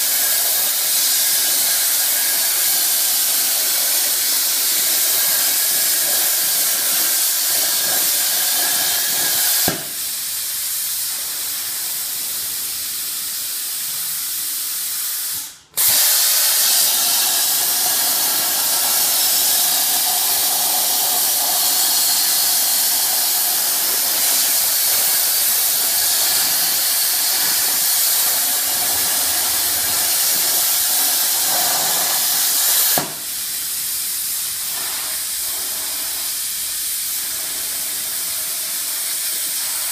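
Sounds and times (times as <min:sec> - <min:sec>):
plasma cutter torch hissing: 0:00.0 - 0:39.9.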